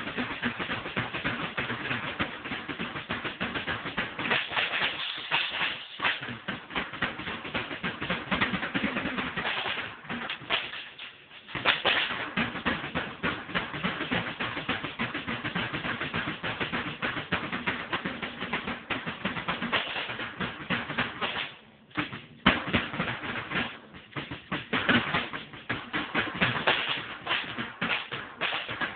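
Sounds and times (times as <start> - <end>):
drum kit played fast: 0.0 - 28.9.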